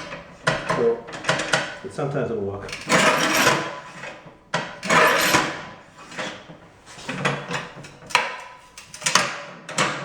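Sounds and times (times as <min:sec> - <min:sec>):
tile cutter carriage scraping: 0:00.0 - 0:10.0.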